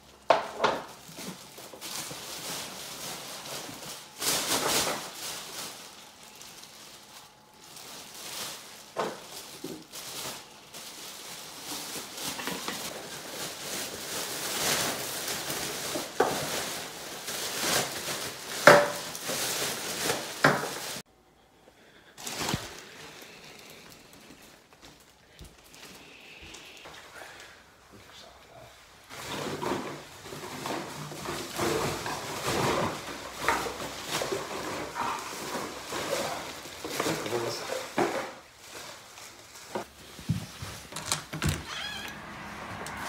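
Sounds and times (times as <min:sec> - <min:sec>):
plastic bag rustling and crinkling: 0:00.0 - 0:21.1, 0:21.9 - 0:27.5, 0:28.3 - 0:43.0.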